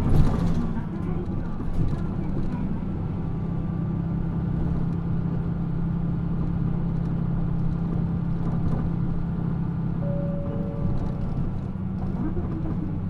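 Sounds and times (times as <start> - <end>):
bus diesel engine hum: 0.0 - 13.0.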